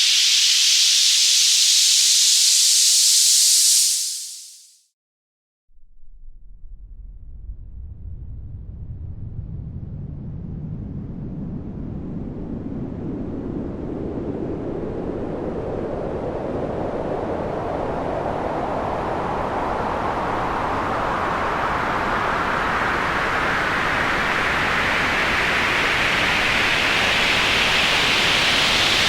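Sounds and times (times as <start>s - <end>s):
rising white noise sweep: 0.0s - 4.8s, 6.7s - 29.0s.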